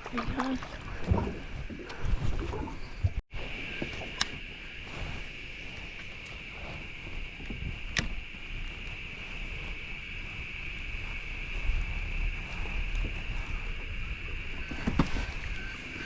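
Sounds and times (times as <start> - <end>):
steady high-pitched hum: 0.0 - 16.0
wind rumble on microphone: 0.0 - 16.0.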